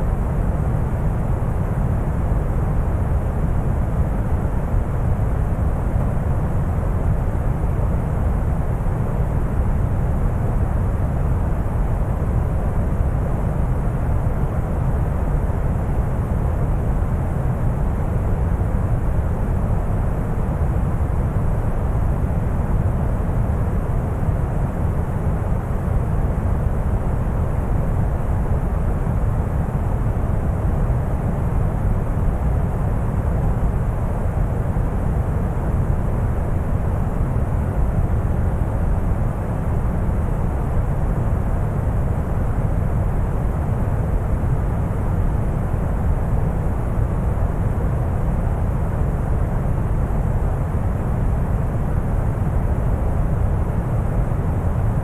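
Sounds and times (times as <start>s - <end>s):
deep brown noise hiss: 0.0s - 55.0s.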